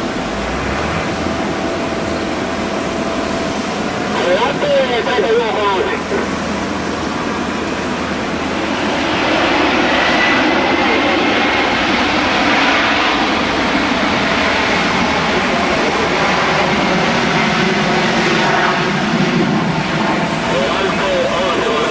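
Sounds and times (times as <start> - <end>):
aircraft engines roaring: 0.0 - 21.9
faint whine: 0.0 - 21.9.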